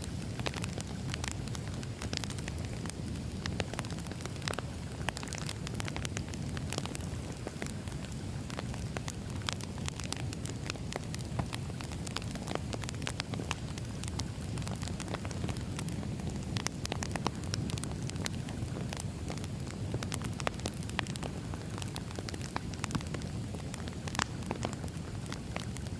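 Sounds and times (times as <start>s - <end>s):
campfire crackling: 0.0s - 25.9s.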